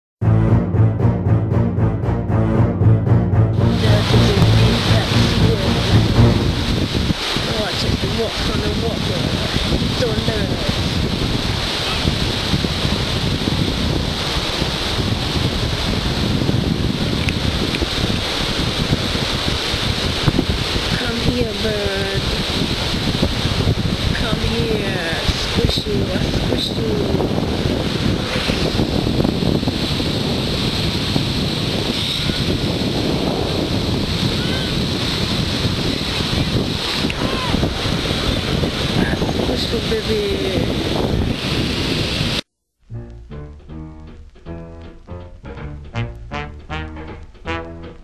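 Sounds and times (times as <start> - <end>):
wind buffeting microphone: 3.5 - 42.5
surf washing onto beach: 3.6 - 42.5
small waves breaking on shore: 3.8 - 42.5.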